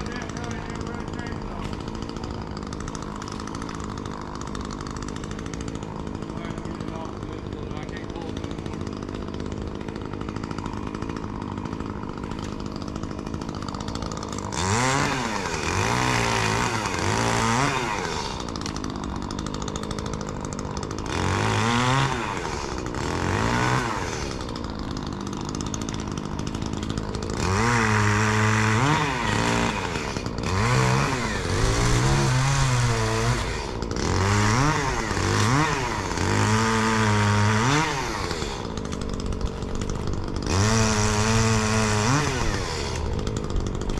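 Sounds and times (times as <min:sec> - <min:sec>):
chainsaw idling and revving: 0:00.0 - 0:43.9.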